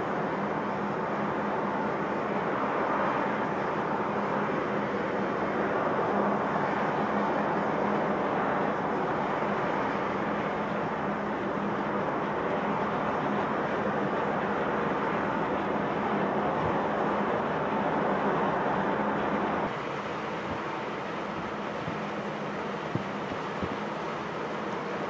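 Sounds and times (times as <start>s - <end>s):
boat diesel engines running: 0.0s - 25.0s
churning propeller wash: 0.0s - 25.0s.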